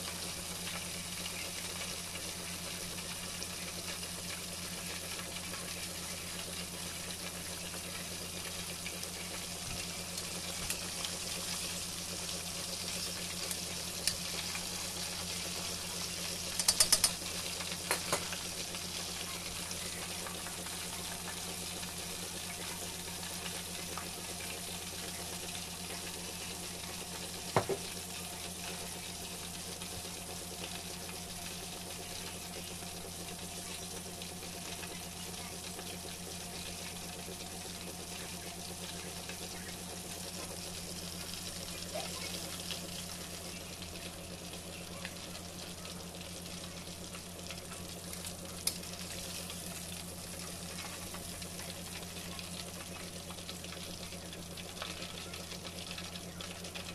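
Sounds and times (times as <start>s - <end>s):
fish deep-frying in oil: 0.0s - 56.9s
low steady hum: 0.0s - 56.9s.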